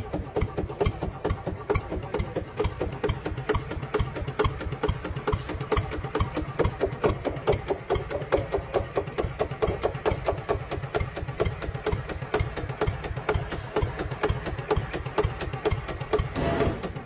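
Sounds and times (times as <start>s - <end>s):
rhythmic engine-like chugging: 0.0s - 17.0s.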